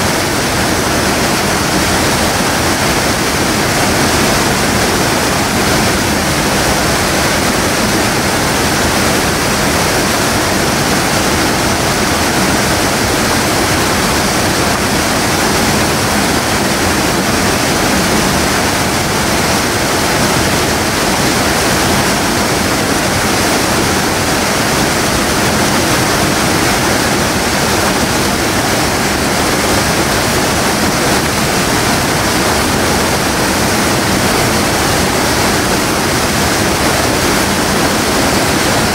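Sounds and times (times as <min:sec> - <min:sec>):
water rushing into pool: 0:00.0 - 0:38.9.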